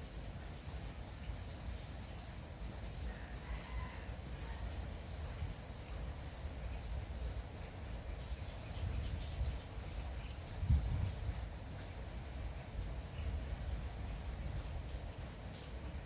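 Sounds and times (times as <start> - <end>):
light rain: 0.0 - 16.0.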